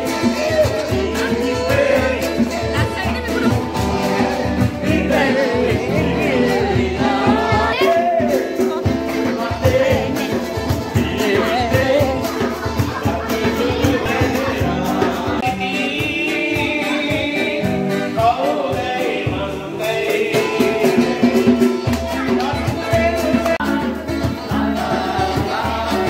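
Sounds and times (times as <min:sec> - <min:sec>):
acoustic guitar: 0:00.0 - 0:26.0
live band music: 0:00.0 - 0:26.0
person singing: 0:00.0 - 0:26.0
steady drum beat: 0:00.0 - 0:26.0.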